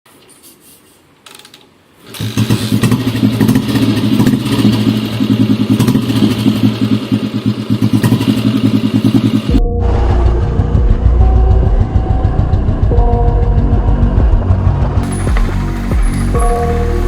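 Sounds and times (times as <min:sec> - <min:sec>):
motorcycle engine running: 0:02.1 - 0:17.0.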